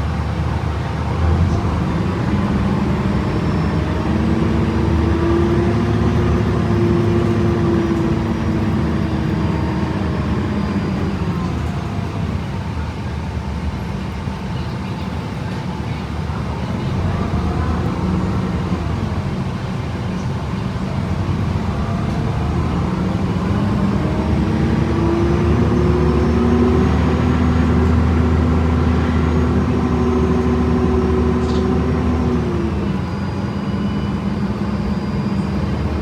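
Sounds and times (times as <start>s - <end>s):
bus engine droning: 0.0s - 36.0s.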